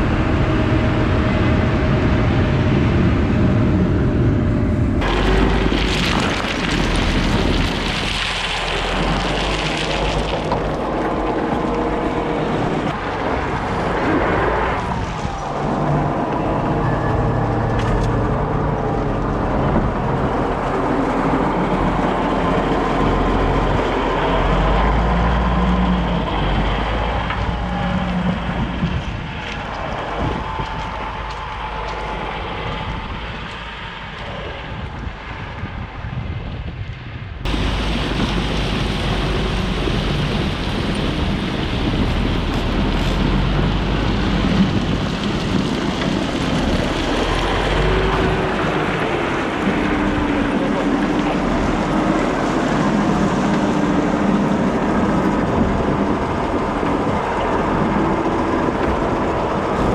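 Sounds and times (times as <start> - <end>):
heavy machinery engines running: 0.0 - 35.8, 37.5 - 59.9.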